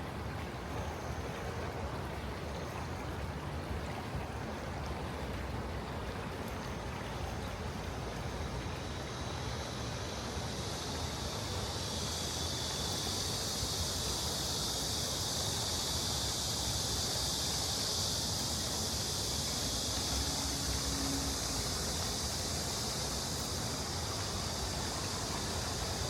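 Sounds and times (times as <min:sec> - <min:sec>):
low rumble of city traffic: 0:00.0 - 0:26.0
stream water flowing over stones: 0:00.0 - 0:26.0.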